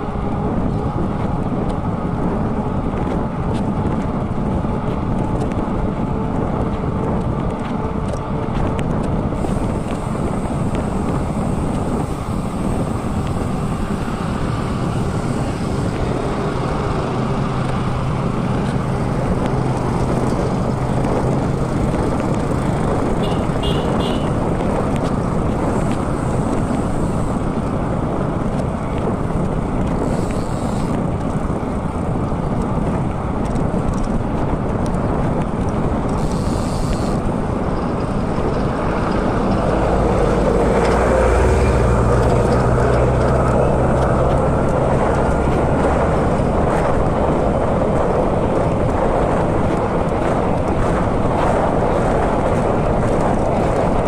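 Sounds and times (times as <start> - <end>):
bike road noise: 0.0 - 54.0
passing vehicle engine hum: 0.0 - 54.0
rushing wind: 0.0 - 54.0.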